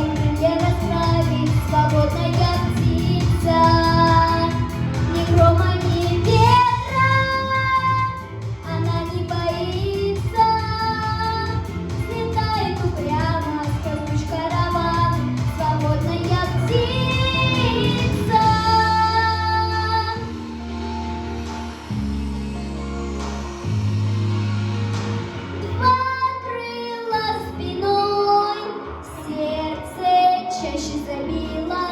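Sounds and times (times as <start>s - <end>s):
girl singing: 0.0s - 20.3s, 25.6s - 31.9s
backing track: 0.0s - 31.9s.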